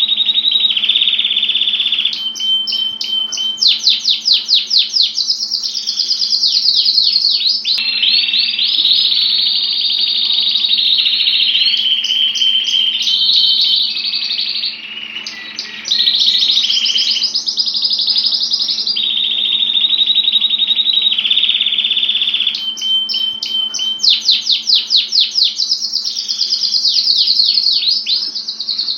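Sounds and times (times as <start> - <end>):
canary singing: 0.0 - 28.9.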